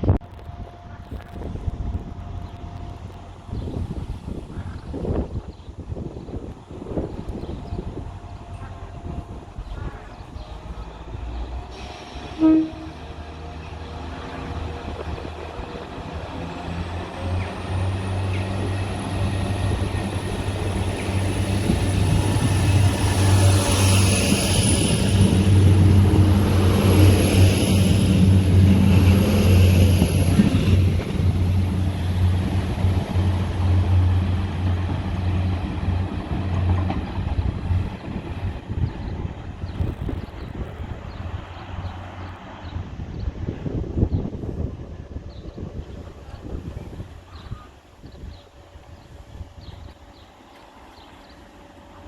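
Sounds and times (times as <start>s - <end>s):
train engine rumble: 0.0s - 52.0s.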